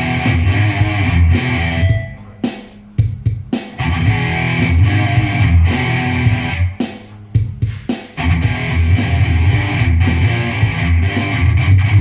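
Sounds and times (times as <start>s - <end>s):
distorted electric guitar riffing: 0.0s - 2.8s, 3.8s - 7.1s, 8.2s - 12.0s.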